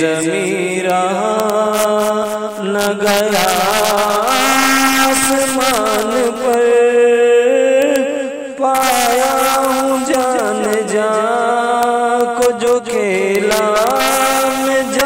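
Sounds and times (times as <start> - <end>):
person singing devotional song: 0.0 - 15.0.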